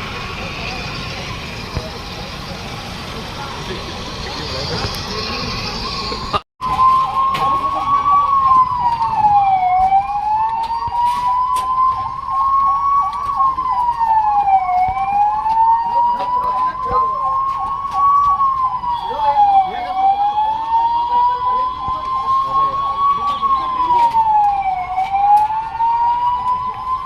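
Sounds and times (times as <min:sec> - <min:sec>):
siren wail: 0:03.5 - 0:27.0
siren yelp: 0:03.5 - 0:27.0.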